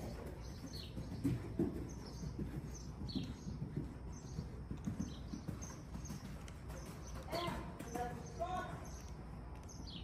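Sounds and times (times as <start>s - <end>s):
horse hoofbeats on sand: 0.0s - 9.5s
birds chirping: 0.0s - 10.0s.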